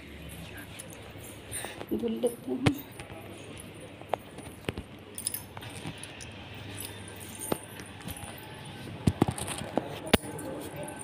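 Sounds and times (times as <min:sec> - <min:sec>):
light jangling: 0:00.1 - 0:11.0.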